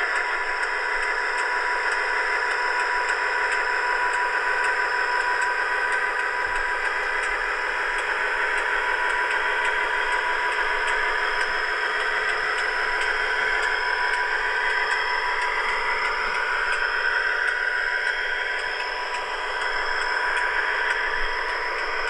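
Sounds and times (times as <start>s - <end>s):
faint regular ticking: 0.0s - 22.0s
model train diesel engine sound: 0.0s - 22.0s.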